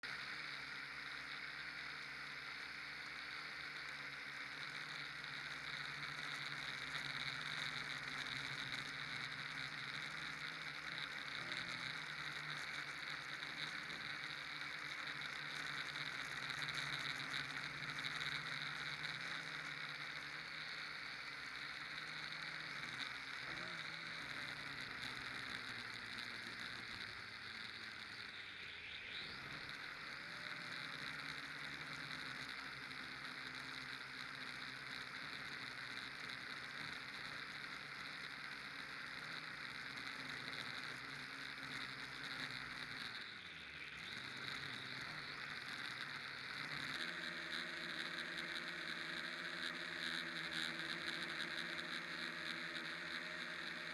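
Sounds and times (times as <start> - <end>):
model aircraft motor hum: 0.0 - 53.9.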